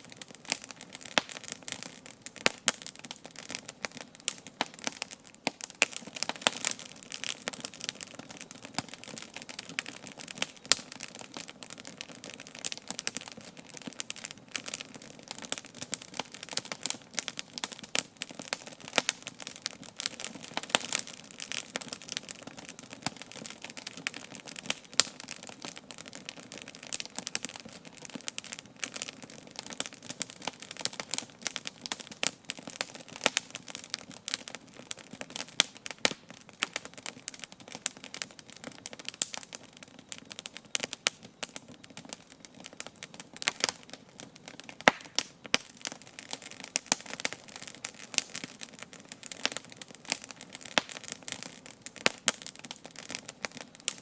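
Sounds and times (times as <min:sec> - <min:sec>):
campfire crackling: 0:00.0 - 0:54.0
fire pops and snaps: 0:00.0 - 0:54.0.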